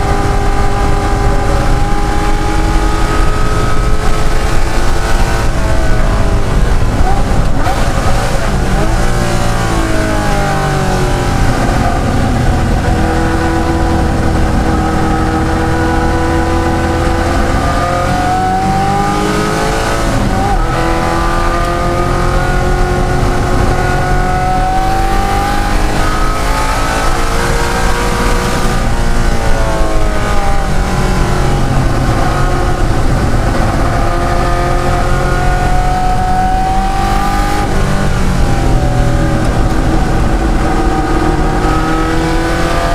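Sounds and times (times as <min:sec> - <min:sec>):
racing car engine accelerating: 0:00.0 - 0:42.9.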